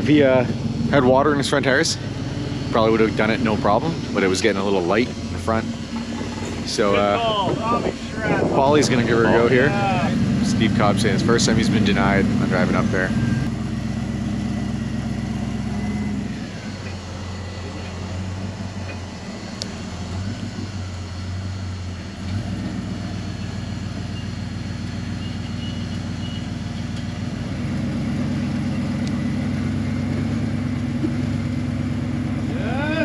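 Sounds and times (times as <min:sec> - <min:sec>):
buggy engine running under load: 0:00.0 - 0:33.0.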